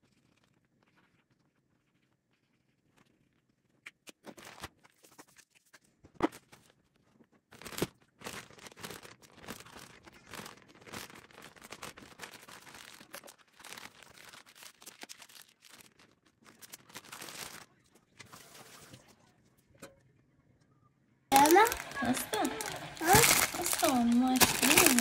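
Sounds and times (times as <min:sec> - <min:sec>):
rustling and crinkling: 0:00.0 - 0:19.2, 0:21.3 - 0:25.0.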